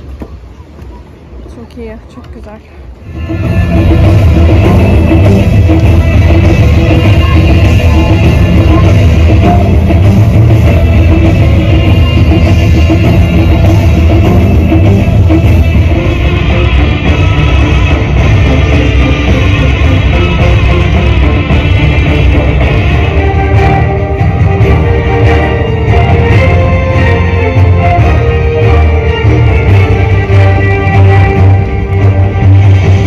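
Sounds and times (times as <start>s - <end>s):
loud amplified music: 3.0s - 33.0s
heavy low drum beat: 3.1s - 33.0s.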